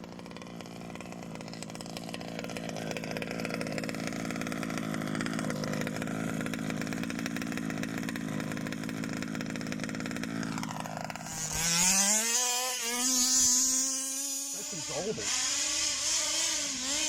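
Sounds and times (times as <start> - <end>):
rc car engine revving: 0.0 - 17.0.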